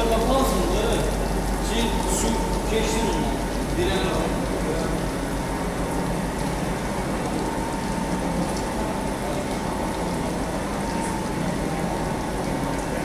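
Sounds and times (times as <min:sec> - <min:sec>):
pump humming: 0:00.0 - 0:13.0
water rushing through rug: 0:00.0 - 0:13.0.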